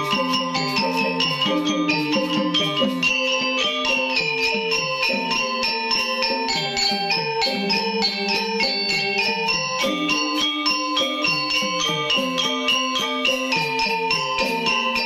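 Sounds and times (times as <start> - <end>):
gamelan metallophones playing: 0.0 - 15.0.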